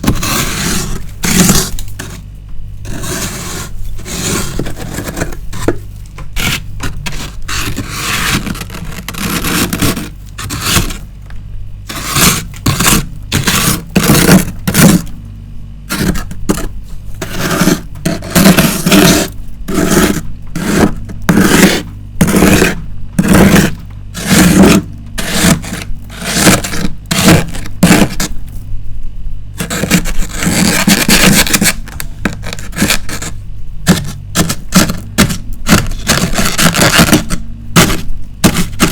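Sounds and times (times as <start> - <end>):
frost being scraped: 0.0 - 11.1, 11.8 - 15.2, 15.9 - 28.4, 29.6 - 38.9.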